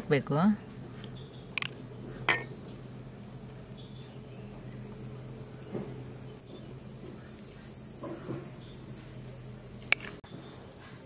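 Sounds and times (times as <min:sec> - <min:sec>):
low steady hum: 0:00.0 - 0:10.9
high-pitched insect drone: 0:00.6 - 0:10.8.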